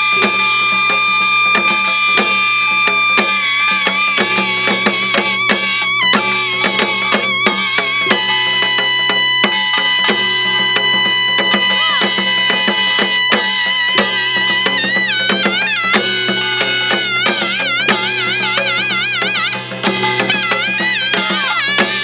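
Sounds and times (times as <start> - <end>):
drum strokes: 0.0 - 22.0
pitch-bending melody line: 0.0 - 22.0.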